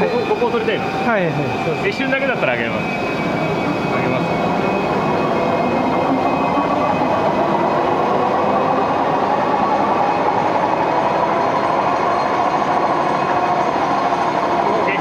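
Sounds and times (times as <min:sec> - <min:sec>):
film slitting machine running: 0:00.0 - 0:15.0.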